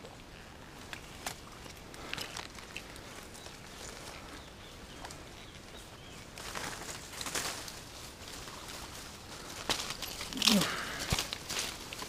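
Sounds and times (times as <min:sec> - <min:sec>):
faint riverside ambience: 0:00.0 - 0:12.0
leaves and branches rustling: 0:00.0 - 0:12.0.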